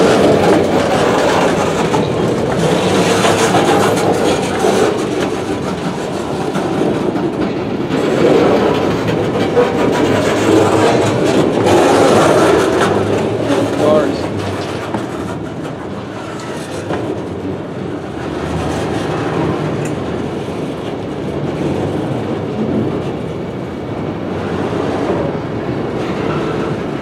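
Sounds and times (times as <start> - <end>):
freight train rolling past: 0.0 - 27.0.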